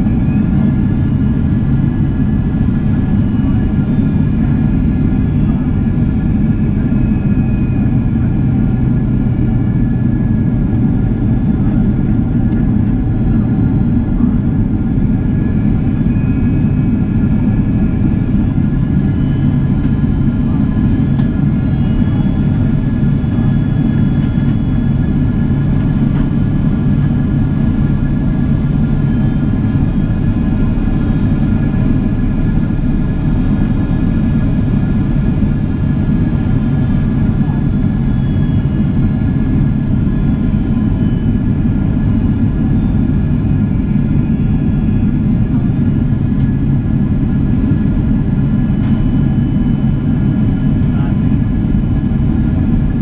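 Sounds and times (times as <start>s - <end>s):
airplane cabin engine drone: 0.0s - 53.0s.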